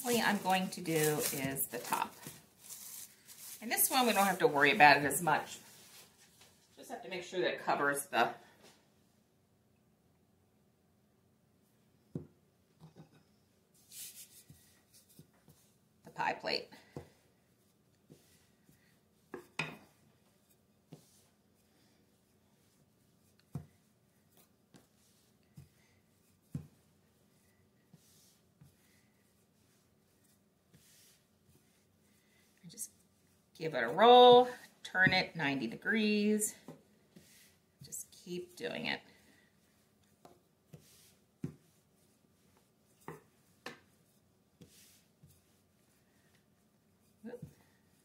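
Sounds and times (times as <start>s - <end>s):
soft rubbing: 0.0s - 6.8s, 13.7s - 15.8s, 17.4s - 48.0s.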